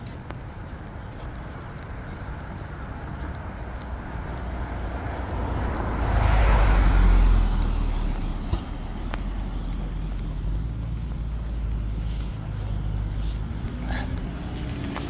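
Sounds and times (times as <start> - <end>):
car passing by: 1.8 - 15.0.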